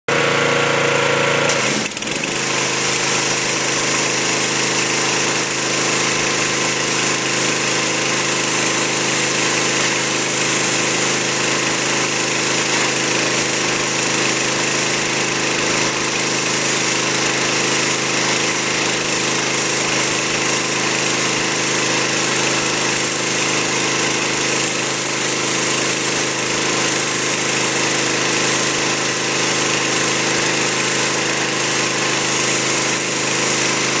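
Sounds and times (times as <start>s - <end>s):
pressure washer jet hissing on stone: 1.4s - 34.0s.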